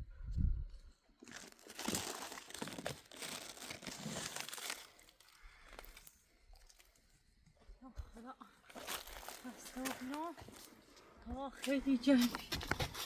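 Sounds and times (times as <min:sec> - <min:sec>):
dry leaves and twigs rustling: 0:01.2 - 0:07.0, 0:08.2 - 0:13.0.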